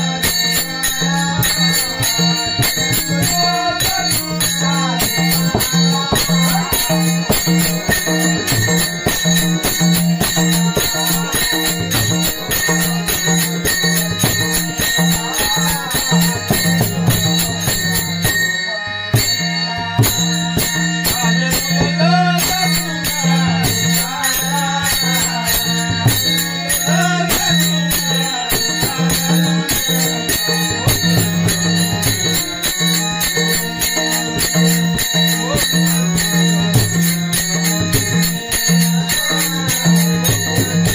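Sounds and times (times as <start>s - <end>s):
hand cymbals clashing: 0.0s - 40.9s
wavering melody line: 0.0s - 40.9s.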